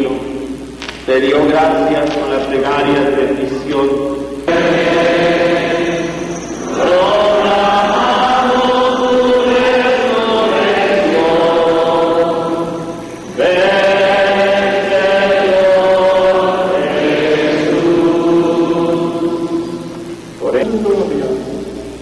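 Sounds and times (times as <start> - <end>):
voices singing a chant: 1.2 - 20.4.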